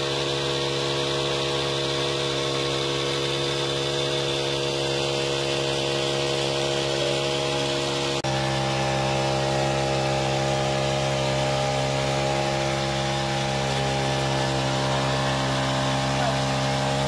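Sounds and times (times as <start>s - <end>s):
petrol engine running steadily: 0.0s - 17.0s.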